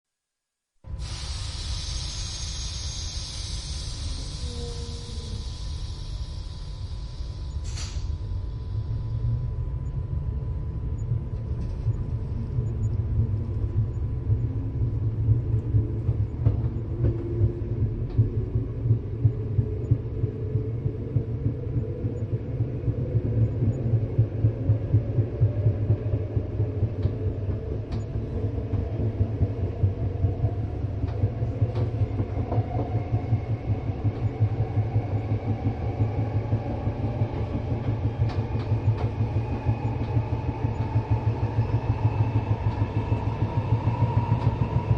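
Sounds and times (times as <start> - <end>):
train wheels rumbling on rails: 0.9 - 9.6, 11.0 - 44.9
rising train whine: 0.9 - 44.9.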